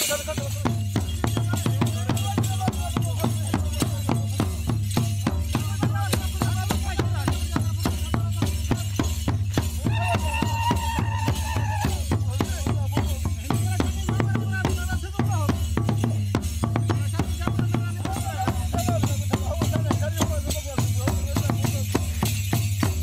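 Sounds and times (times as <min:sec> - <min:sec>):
quick drum strokes with rattles: 0:00.0 - 0:23.0.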